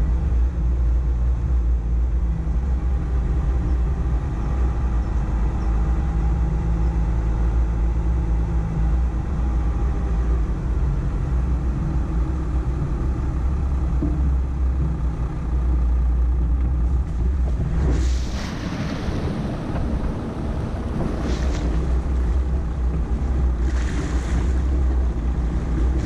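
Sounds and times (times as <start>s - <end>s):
pickup engine running: 0.0s - 26.0s.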